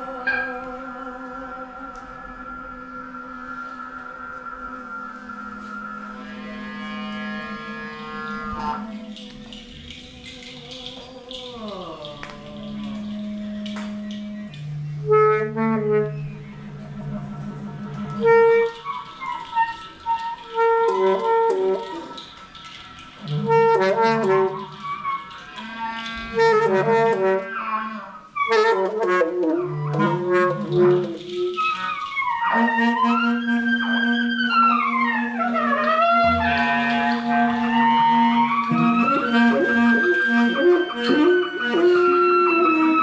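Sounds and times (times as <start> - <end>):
downward pitch glide: 0.0 - 22.4, 29.5 - 43.0
low sustained note: 0.0 - 28.2, 29.6 - 43.0
group improvisation on wind instruments: 0.0 - 43.0.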